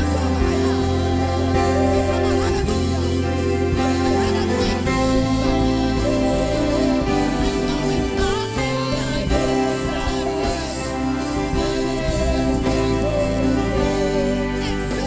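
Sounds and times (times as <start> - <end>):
gospel band playing: 0.0 - 15.0
person singing vocal runs: 0.0 - 15.0.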